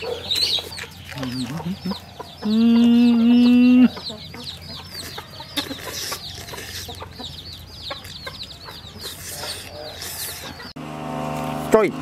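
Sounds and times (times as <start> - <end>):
chicks peeping: 0.0 - 10.9.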